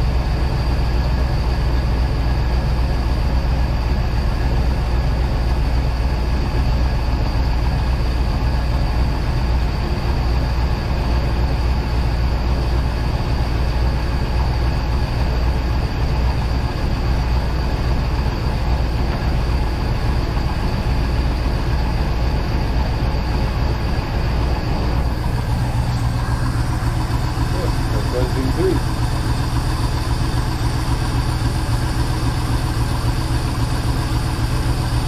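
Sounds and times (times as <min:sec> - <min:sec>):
boat engine idling: 0:00.0 - 0:35.0
engine knock: 0:00.0 - 0:35.0.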